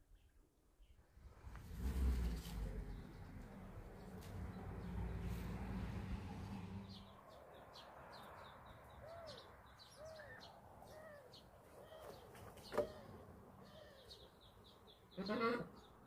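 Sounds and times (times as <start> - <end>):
small birds chirping: 2.4 - 16.0.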